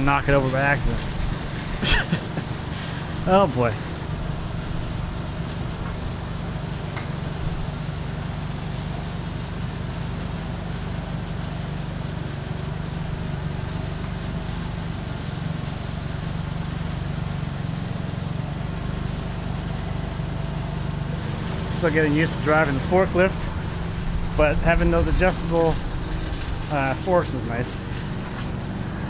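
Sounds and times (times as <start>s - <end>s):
forklift engine humming: 0.0s - 29.0s.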